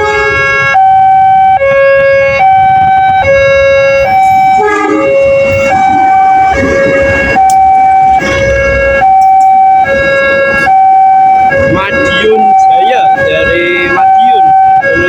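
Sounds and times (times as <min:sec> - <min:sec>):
level-crossing two-tone alarm: 0:00.0 - 0:15.0.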